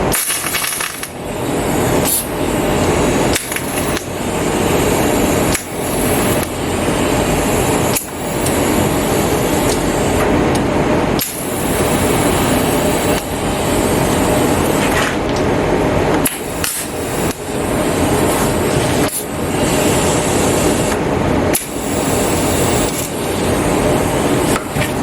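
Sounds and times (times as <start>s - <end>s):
welding arc crackling: 0.0s - 15.4s, 16.2s - 25.0s.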